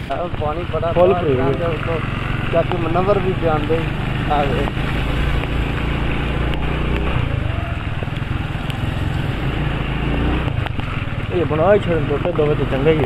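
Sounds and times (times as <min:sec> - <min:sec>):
motorcycle engine running: 0:00.0 - 0:13.0
tyres on wet road: 0:00.0 - 0:13.0.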